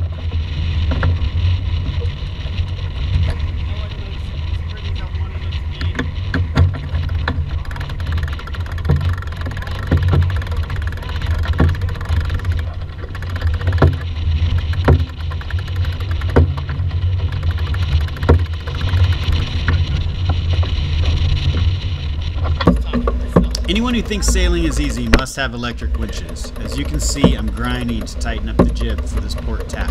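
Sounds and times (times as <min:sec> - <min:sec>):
steady low rumble: 0:00.0 - 0:29.9
winch clicking: 0:05.7 - 0:29.9.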